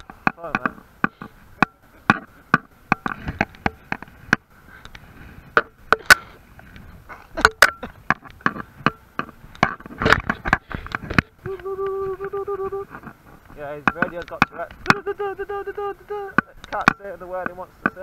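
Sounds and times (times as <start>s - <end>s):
sharp clicks and knocks: 0.0s - 15.1s, 16.3s - 18.0s.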